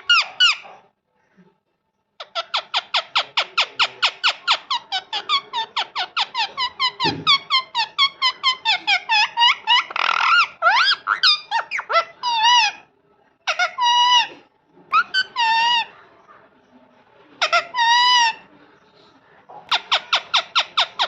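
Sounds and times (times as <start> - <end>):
parrot squawking and chirping: 0.0 - 0.9, 2.2 - 16.0, 17.4 - 18.5, 19.7 - 21.0.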